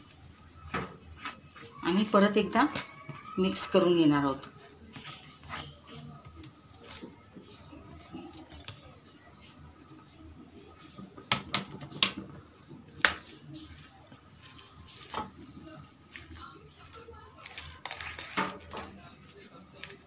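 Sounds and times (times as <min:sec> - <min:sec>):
hand mixing batter in bowl: 0:00.0 - 0:20.0.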